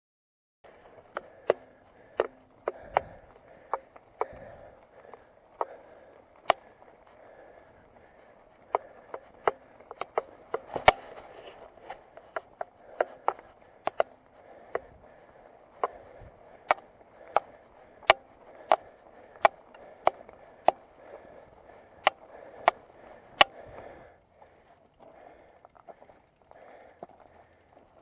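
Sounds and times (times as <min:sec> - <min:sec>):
tyres on gravel: 0:00.6 - 0:28.0
bike clicking knocks: 0:01.0 - 0:24.0.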